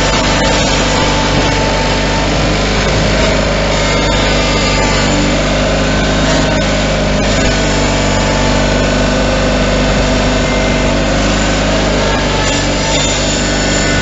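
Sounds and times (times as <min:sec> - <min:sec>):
garden tractor engine running: 0:00.0 - 0:14.0.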